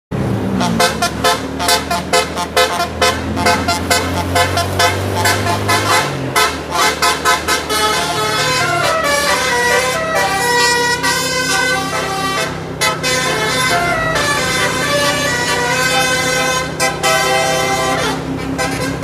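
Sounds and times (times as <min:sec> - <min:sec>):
multi-tone air horn tune: 0:00.5 - 0:19.0.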